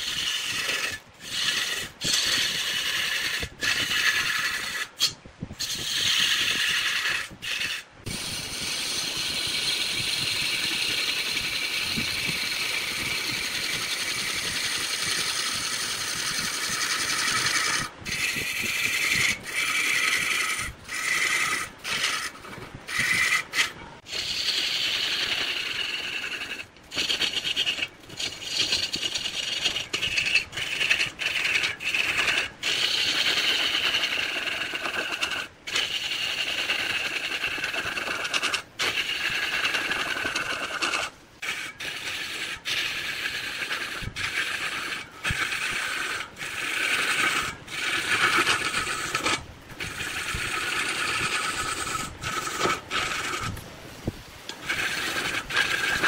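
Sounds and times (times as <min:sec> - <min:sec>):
lathe tool scraping wood: 0:00.0 - 0:56.0.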